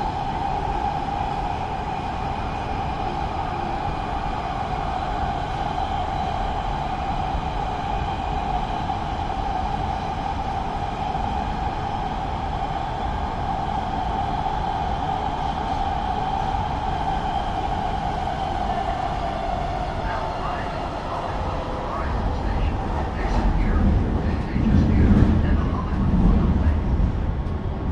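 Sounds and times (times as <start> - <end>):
train rumbling along track: 0.0 - 27.9.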